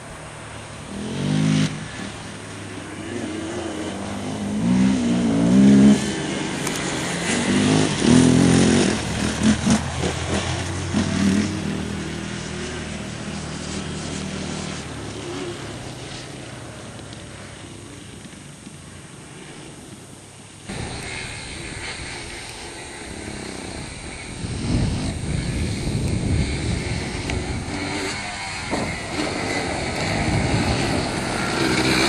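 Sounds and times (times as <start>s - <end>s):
quad engines revving: 0.0s - 20.0s, 20.6s - 32.0s.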